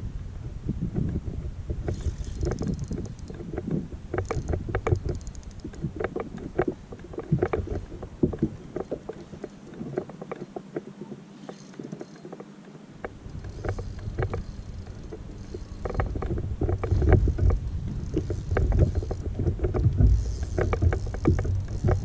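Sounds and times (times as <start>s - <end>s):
water slapping boat hull: 1.0s - 22.0s.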